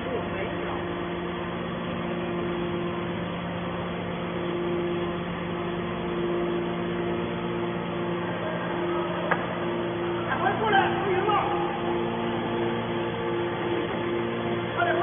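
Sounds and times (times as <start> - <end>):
scrap baler machinery humming: 0.0 - 15.0.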